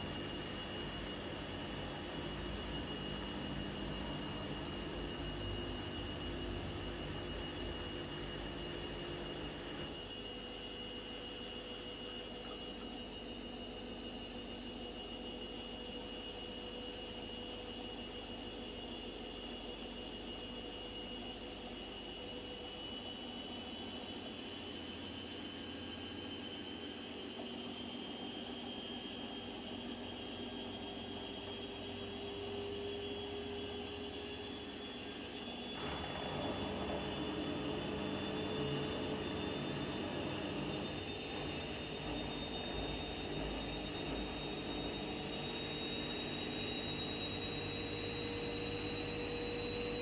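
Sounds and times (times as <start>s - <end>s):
washing machine motor whine: 0.0s - 50.0s.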